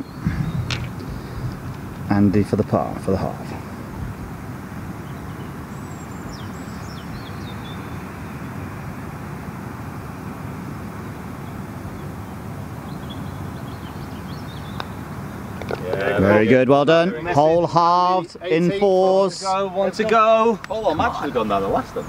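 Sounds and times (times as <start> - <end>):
low outdoor background noise: 0.0 - 22.0.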